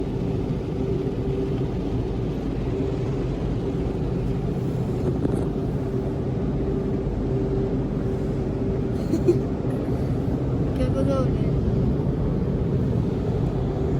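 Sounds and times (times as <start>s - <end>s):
car wash machinery humming: 0.0s - 13.9s
low rumble: 0.0s - 13.9s.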